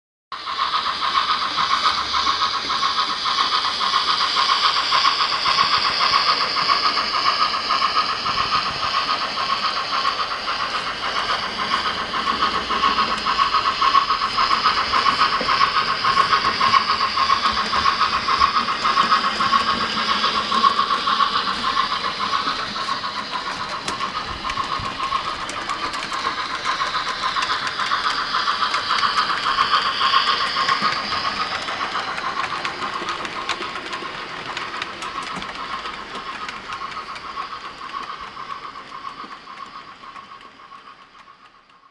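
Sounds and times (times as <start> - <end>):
steam chuffs through small speaker: 0.3 - 41.9.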